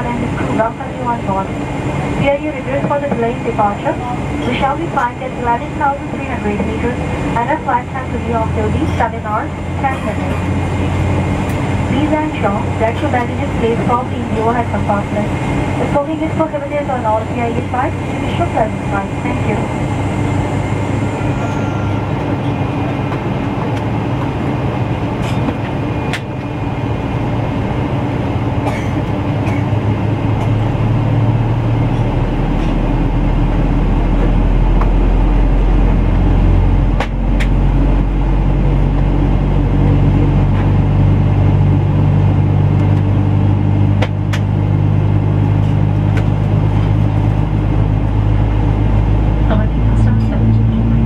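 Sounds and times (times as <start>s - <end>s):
jet engine hum in cabin: 0.0s - 51.0s.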